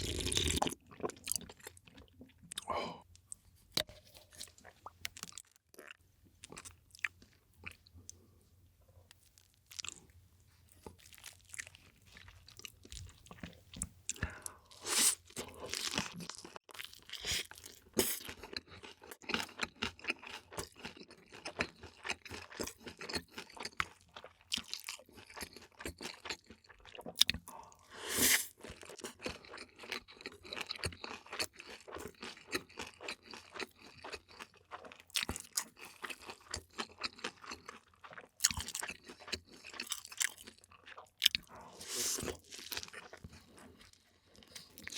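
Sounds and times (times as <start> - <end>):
person chewing and crunching food: 0.0 - 8.4, 9.0 - 44.9.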